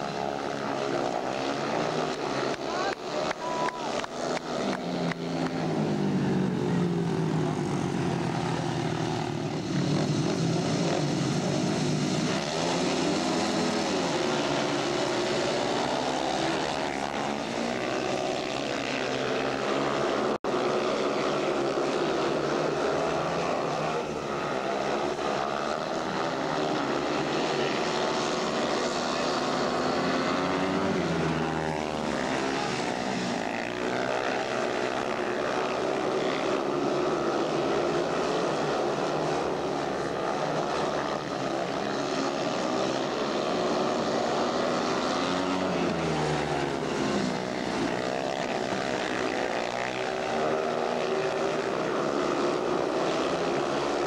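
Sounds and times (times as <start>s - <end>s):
motorcycles racing: 0.0s - 54.0s.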